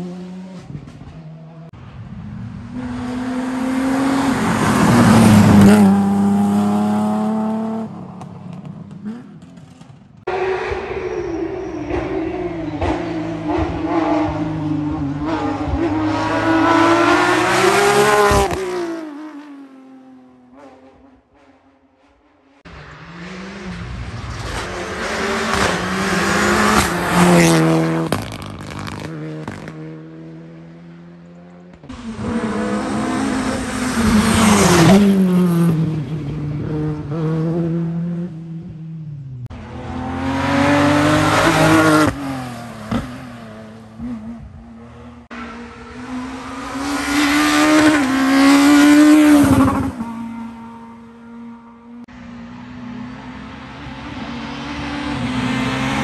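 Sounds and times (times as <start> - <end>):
rally cars passing: 0.0 - 56.0.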